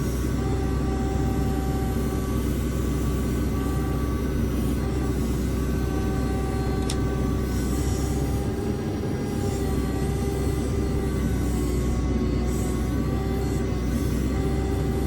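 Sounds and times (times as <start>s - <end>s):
diesel engine running hard: 0.0s - 15.0s
steady whine: 0.0s - 15.0s.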